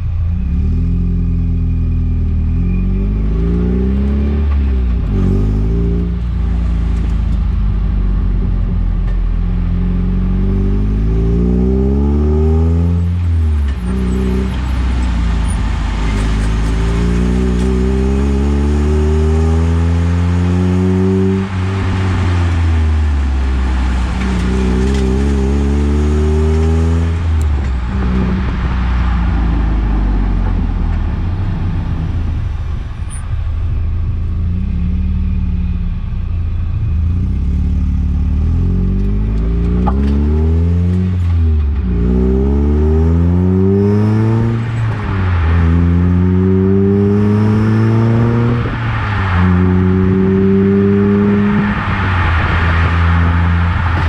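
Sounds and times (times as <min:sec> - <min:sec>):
car engine accelerating through gears: 0:00.0 - 0:54.0
road noise: 0:00.0 - 0:54.0.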